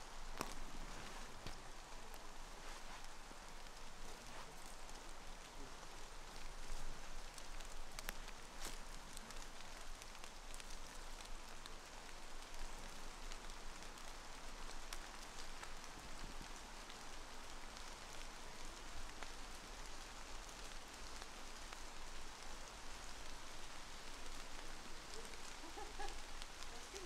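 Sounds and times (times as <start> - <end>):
rain hissing on leaves: 0.0 - 27.0
single raindrops ticking: 0.1 - 20.0, 20.8 - 27.0.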